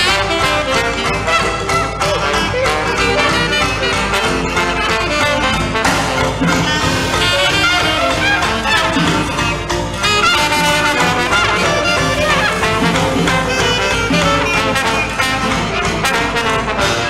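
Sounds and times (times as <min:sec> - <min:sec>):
jazz band playing: 0:00.0 - 0:17.0.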